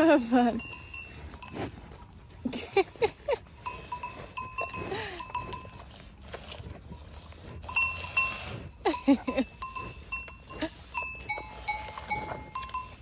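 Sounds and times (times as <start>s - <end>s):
bells clanking: 0.0s - 5.8s, 7.5s - 13.0s.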